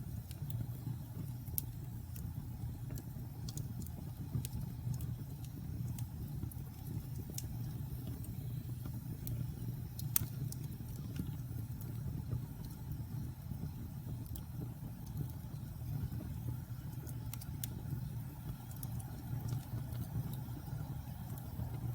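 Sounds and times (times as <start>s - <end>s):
fire crackling and popping: 0.0s - 21.9s
fire rumbling: 0.0s - 21.9s.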